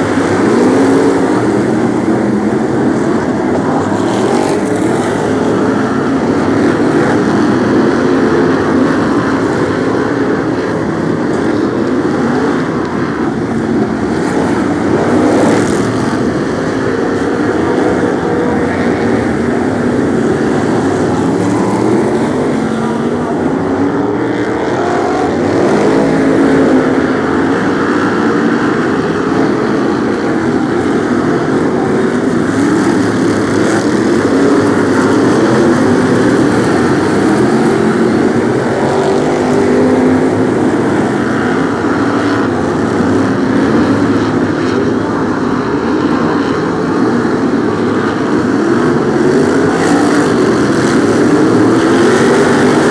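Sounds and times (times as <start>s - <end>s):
racing car engines: 0.0s - 52.9s.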